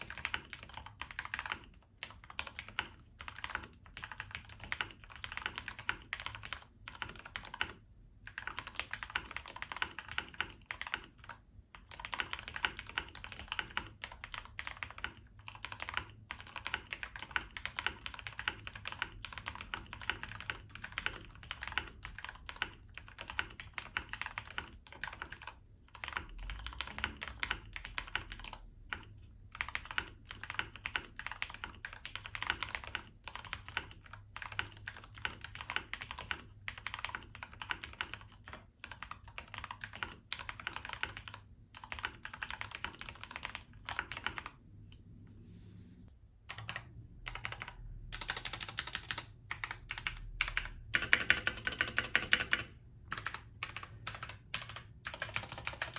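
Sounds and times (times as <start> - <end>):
typing on mechanical keyboard: 0.0 - 44.6, 46.5 - 55.9.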